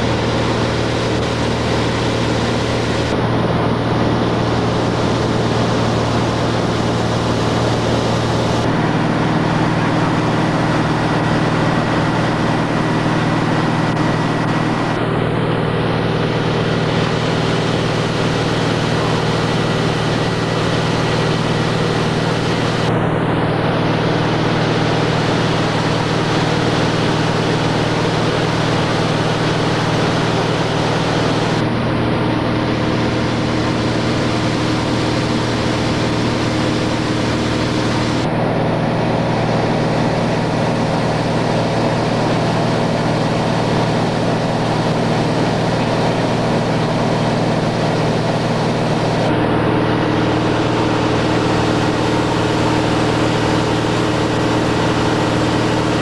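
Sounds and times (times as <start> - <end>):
aircraft engine and propeller hum: 0.0 - 56.0.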